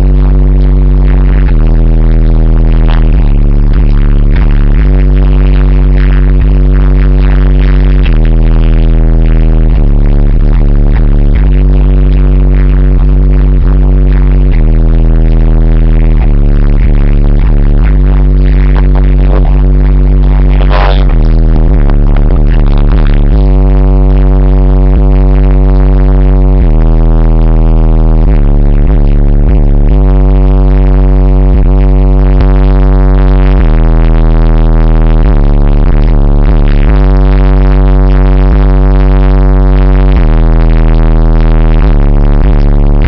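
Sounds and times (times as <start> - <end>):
distorted bass-heavy music: 0.0 - 43.0.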